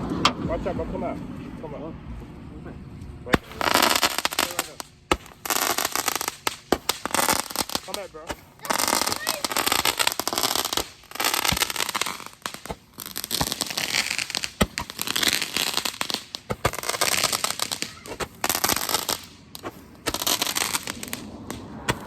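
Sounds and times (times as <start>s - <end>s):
firework crackling and popping: 3.3s - 22.0s.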